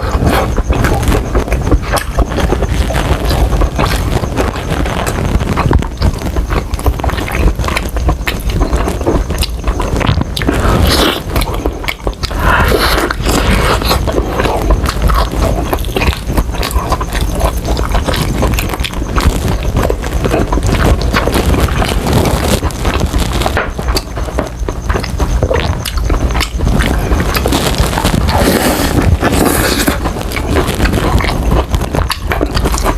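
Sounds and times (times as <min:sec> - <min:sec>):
crunchy chewing: 0:00.0 - 0:32.9
wet mouth sounds: 0:00.0 - 0:32.9.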